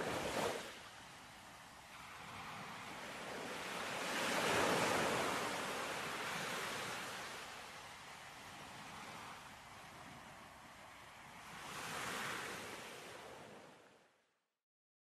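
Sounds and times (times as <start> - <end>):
sea waves washing in: 0.0 - 14.0.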